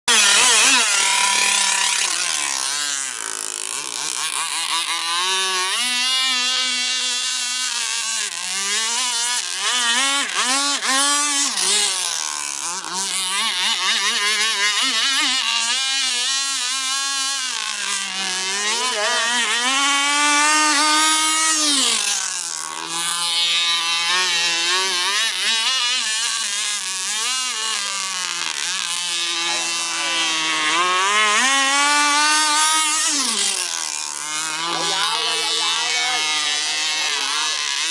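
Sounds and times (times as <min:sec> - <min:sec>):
small boat engine revving: 0:00.0 - 0:37.9.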